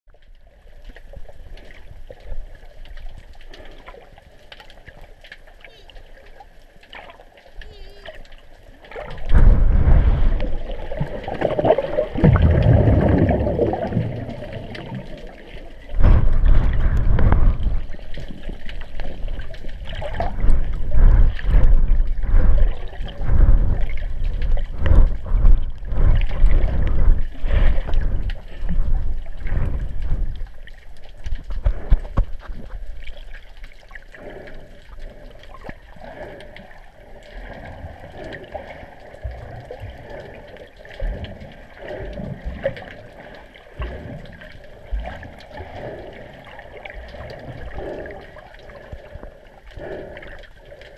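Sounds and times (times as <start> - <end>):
underwater rushing and gurgling: 0.1 - 50.9.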